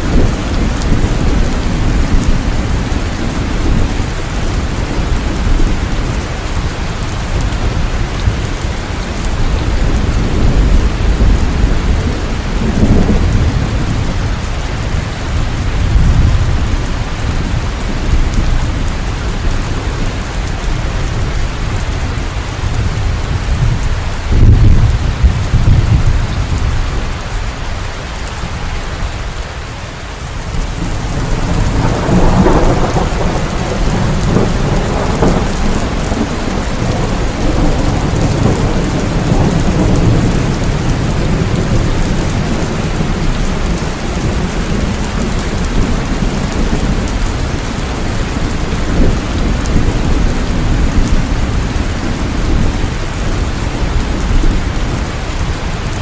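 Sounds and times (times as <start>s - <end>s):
thunder crack and rumble: 0.0s - 28.5s, 30.4s - 56.0s
steady rain: 0.0s - 56.0s.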